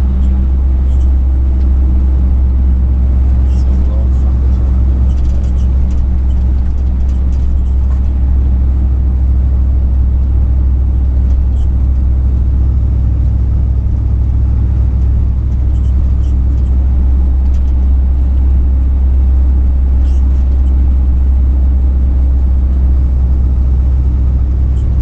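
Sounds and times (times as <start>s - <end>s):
truck engine and tyres droning: 0.0s - 25.0s.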